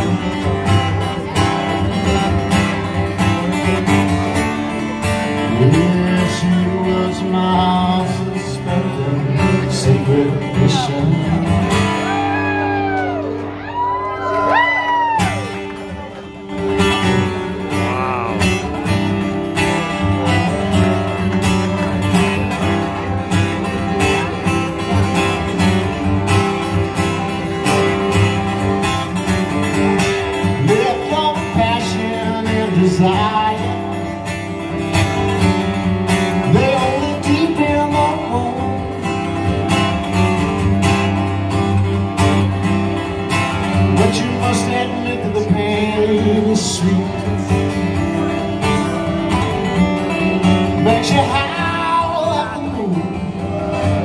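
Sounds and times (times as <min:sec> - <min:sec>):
acoustic guitar strumming: 0:00.0 - 0:13.6, 0:15.0 - 0:54.0.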